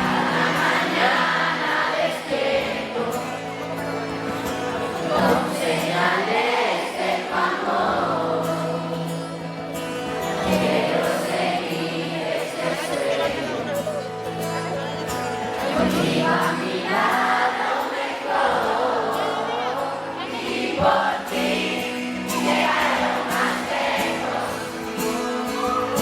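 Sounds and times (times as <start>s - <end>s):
voices singing pop song together: 0.0s - 13.9s, 15.5s - 26.0s.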